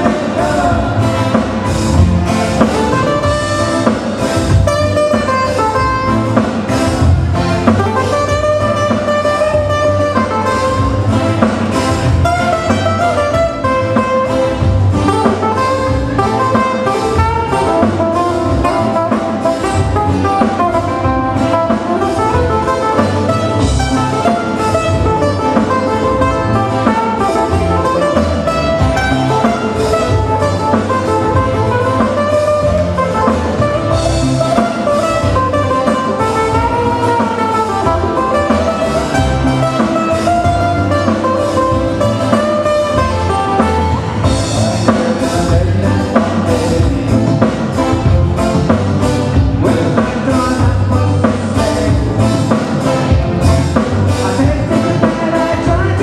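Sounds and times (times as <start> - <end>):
drum kit beat: 0.0 - 56.0
guitar: 0.0 - 56.0.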